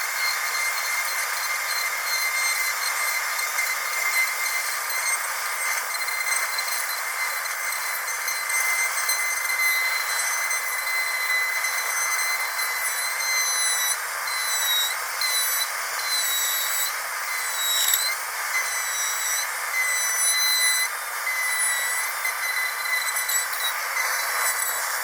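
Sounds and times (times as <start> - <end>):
dentist drill whining: 0.0 - 25.0.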